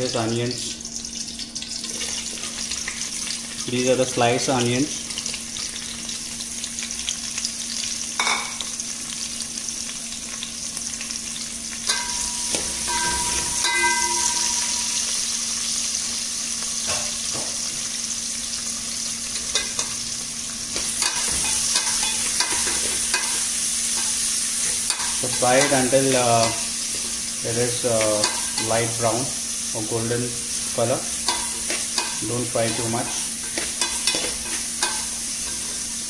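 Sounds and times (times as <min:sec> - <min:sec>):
onions sizzling in oil: 0:00.0 - 0:36.0.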